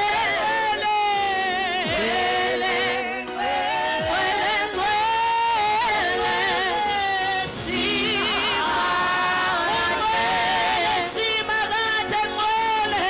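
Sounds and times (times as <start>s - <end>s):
voices singing worship song: 0.0s - 13.0s.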